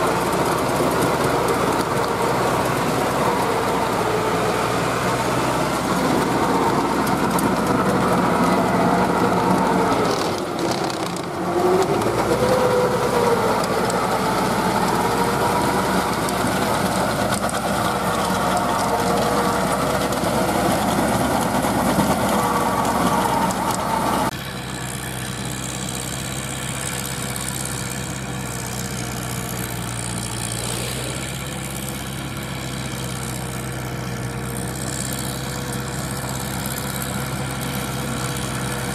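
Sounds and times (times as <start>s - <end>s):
tiller churning dry soil: 0.0s - 38.9s
tractor diesel engine: 0.0s - 38.9s.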